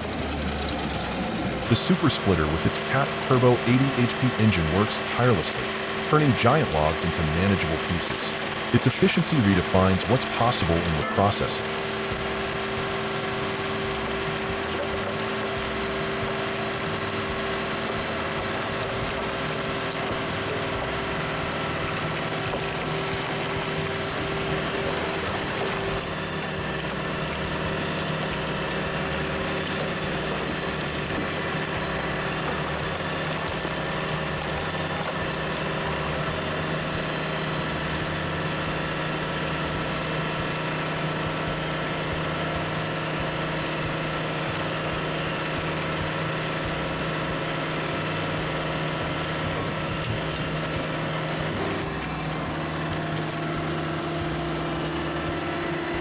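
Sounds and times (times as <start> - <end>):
log splitter engine running: 0.0 - 56.0.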